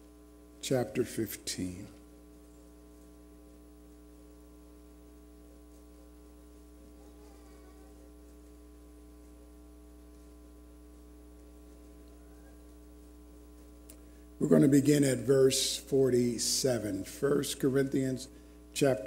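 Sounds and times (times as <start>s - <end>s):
faint electrical mains hum: 0.0s - 19.0s.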